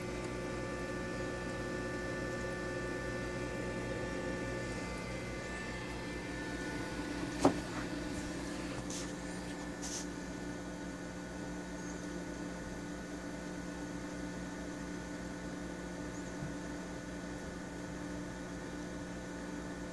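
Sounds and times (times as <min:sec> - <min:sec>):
aquarium equipment hum: 0:00.0 - 0:19.9.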